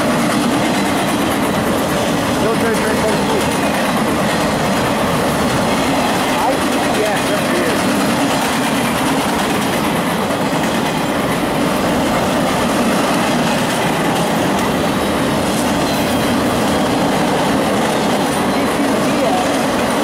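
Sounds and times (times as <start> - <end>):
freight wheels rumbling over rail joints: 0.0 - 20.0.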